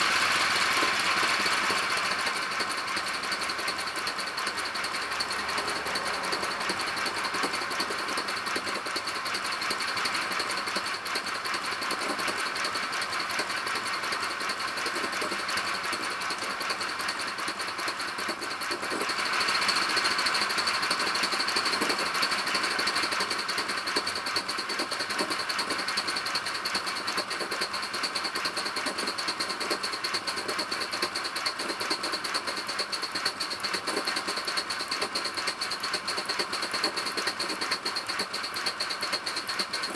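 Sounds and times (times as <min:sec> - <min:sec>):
model steam locomotive chuffing: 0:00.0 - 0:39.9.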